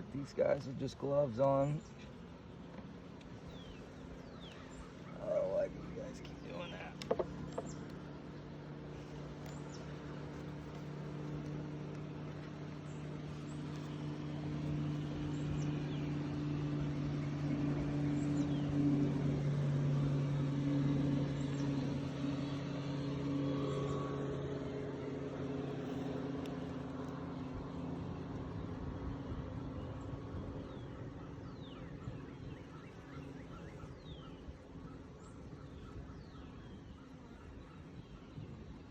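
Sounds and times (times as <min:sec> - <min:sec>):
honeybees humming: 0:00.0 - 0:38.9.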